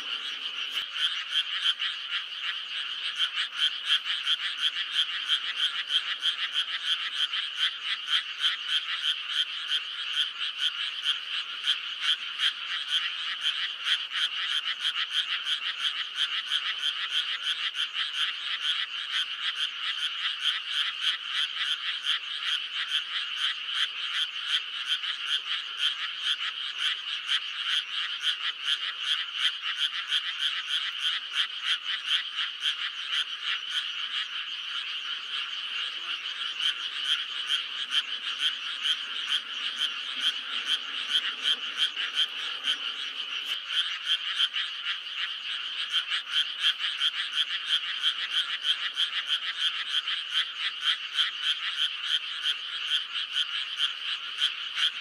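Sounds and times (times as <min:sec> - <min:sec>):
chorus of frogs croaking: 0:00.0 - 0:55.0.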